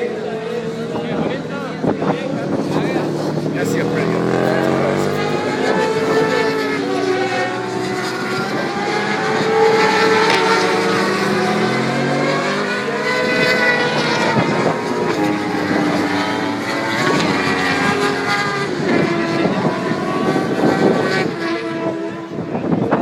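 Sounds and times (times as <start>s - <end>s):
motorcycle engines racing: 0.0s - 23.0s.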